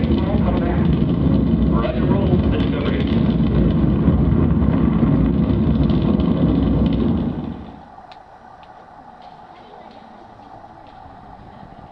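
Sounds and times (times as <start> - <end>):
rocket engines rumbling over loudspeakers: 0.0 - 11.9.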